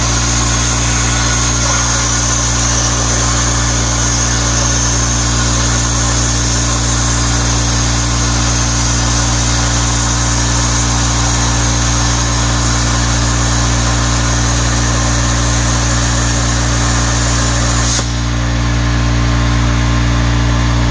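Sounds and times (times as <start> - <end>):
plasma torch arc hissing: 0.0 - 18.6
steady low hum: 0.0 - 20.9.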